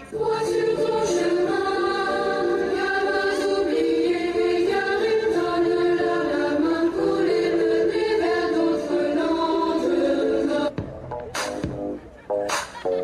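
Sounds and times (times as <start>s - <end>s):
choir singing long held notes: 0.0s - 10.7s.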